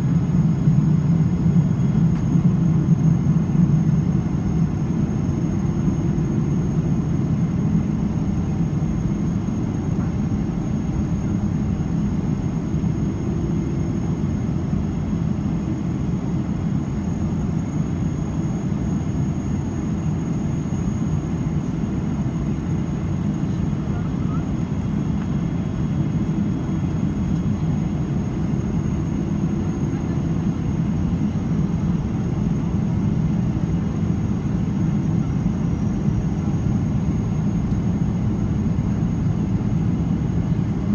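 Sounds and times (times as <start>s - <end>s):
deep jet engine drone: 0.0s - 40.9s
faint high whine: 0.0s - 40.9s.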